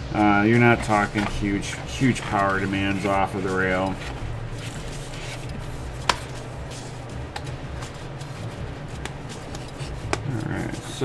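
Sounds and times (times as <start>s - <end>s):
steady low hum: 0.0s - 11.0s
cardboard box rustling: 0.6s - 6.8s, 7.7s - 11.0s.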